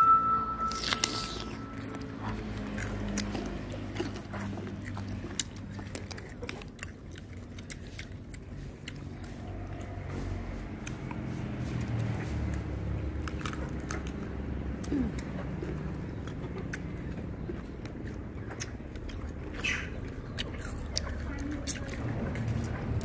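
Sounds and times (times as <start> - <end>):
chewing crisp fruit: 0.6 - 23.0.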